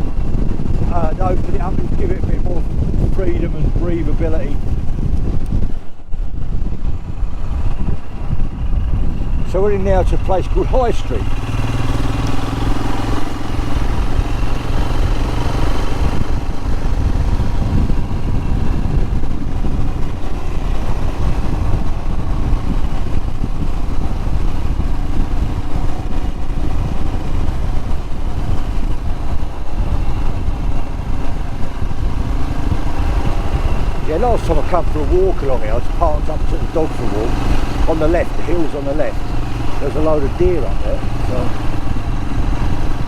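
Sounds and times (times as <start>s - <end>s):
motorcycle engine running: 0.0s - 43.0s
wind rumble on microphone: 0.0s - 43.0s.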